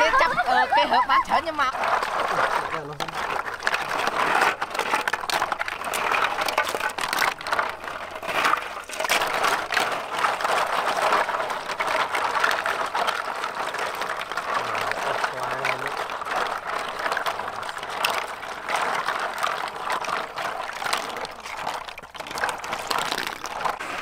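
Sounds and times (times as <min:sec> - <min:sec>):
water sloshing and splashing: 0:00.0 - 0:24.0
snail shells clattering: 0:00.8 - 0:24.0.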